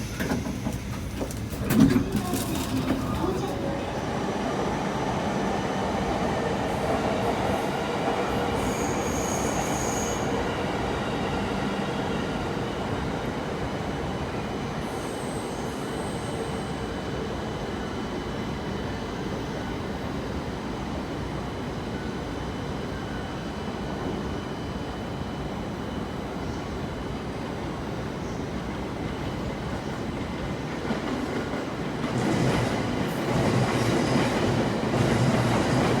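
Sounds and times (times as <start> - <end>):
train wheels rumbling on rail: 0.0 - 21.8, 23.4 - 36.0.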